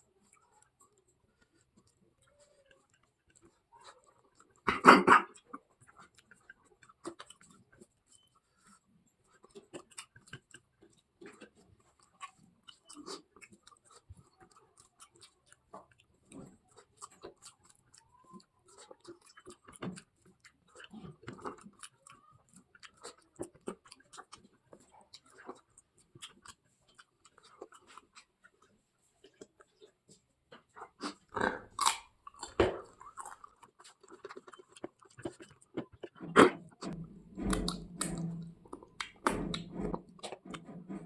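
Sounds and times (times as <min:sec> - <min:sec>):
person chewing food: 0:01.3 - 0:41.0.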